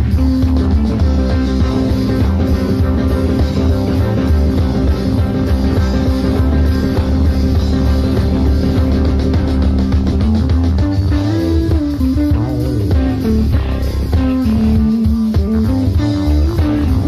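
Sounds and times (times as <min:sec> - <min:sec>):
electric bass line: 0:00.0 - 0:17.0
jazz fusion band playing: 0:00.0 - 0:17.0.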